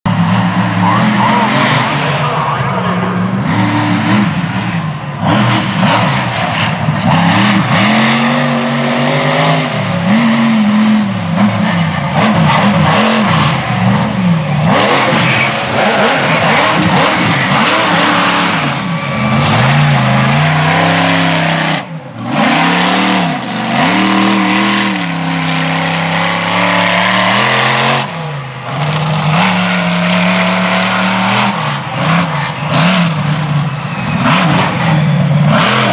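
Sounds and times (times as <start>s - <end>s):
monster truck engine revving: 0.1s - 35.9s.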